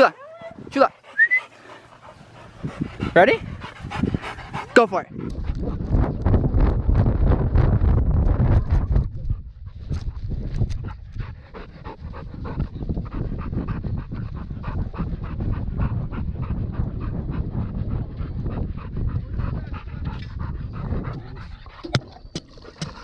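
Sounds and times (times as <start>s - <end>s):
dog panting: 0.0s - 6.2s, 9.2s - 21.9s, 22.5s - 23.0s
low rumble of movement: 0.3s - 23.0s.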